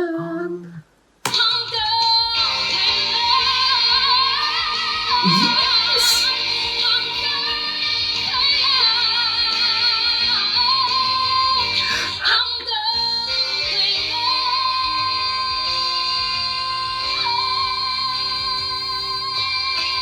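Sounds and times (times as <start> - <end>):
woman singing pop ballad: 0.0 - 20.0
instrumental backing music: 1.3 - 20.0.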